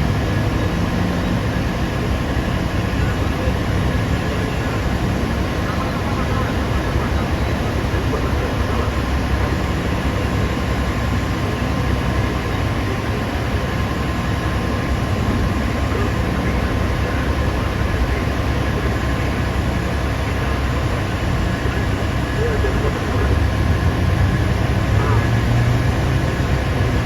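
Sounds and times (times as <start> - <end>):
excavator diesel engine drone: 0.0 - 27.0.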